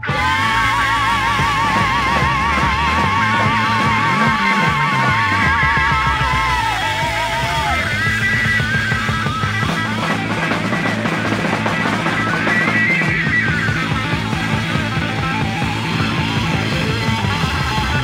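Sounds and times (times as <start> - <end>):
bass and drums: 0.0 - 18.0
electric lead guitar: 0.0 - 18.0.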